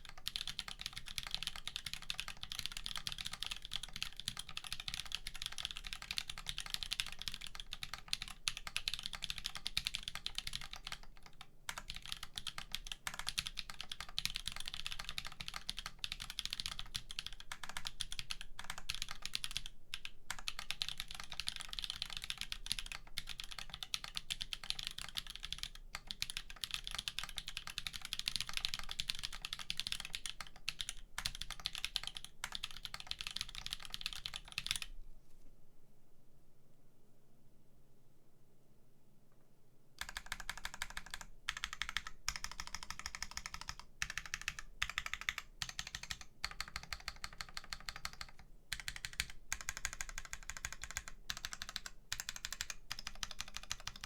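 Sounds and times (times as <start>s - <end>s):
fast typing on mechanical keyboard: 0.0s - 34.9s, 40.0s - 54.0s.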